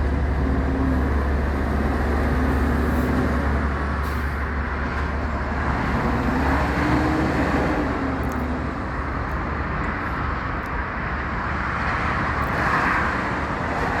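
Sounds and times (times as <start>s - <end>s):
truck engine rumbling: 0.0s - 13.8s
road noise: 0.0s - 14.0s.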